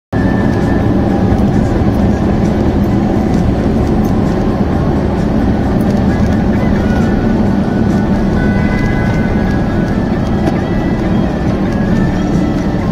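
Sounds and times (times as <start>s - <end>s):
car road and engine rumble: 0.1s - 12.9s.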